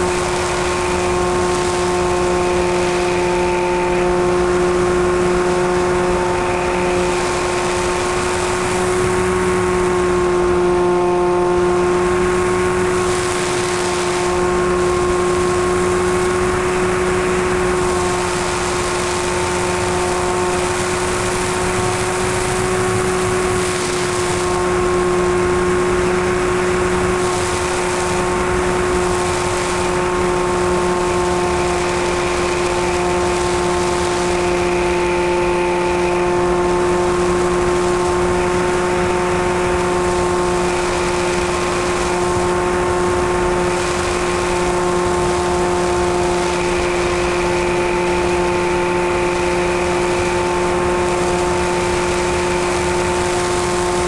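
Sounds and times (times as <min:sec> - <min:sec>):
electric motor and propeller hum: 0:00.0 - 0:54.0.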